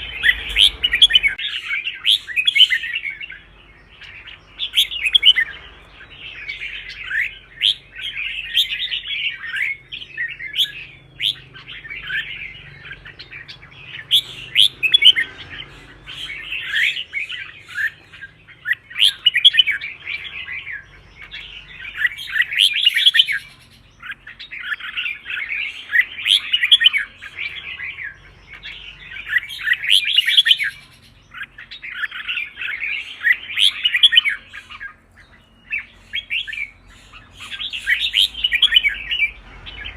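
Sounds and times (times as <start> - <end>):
bird singing warbling phrases: 0.0 - 39.9.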